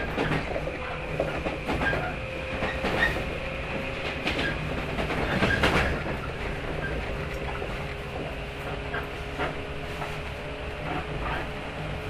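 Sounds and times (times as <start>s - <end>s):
train rumbling: 0.0s - 12.0s
wheels clacking over rail joints: 0.0s - 12.0s.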